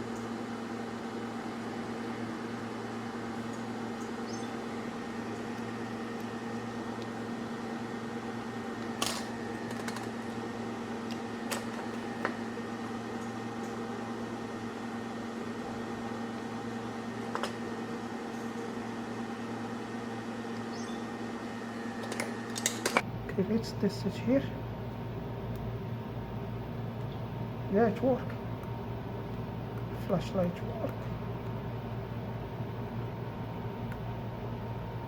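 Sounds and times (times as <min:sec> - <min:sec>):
electrical hum: 0:00.0 - 0:35.0.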